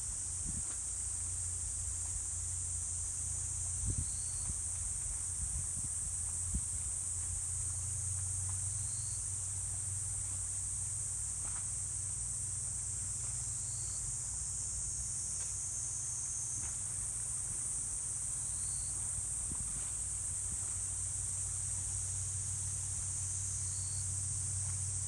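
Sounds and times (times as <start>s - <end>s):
shrill insect chorus: 0.1s - 10.7s, 13.5s - 25.0s.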